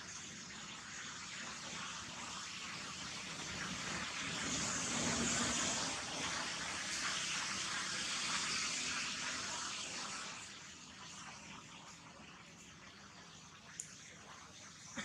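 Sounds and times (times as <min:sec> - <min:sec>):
steady rushing hiss: 0:00.0 - 0:14.7.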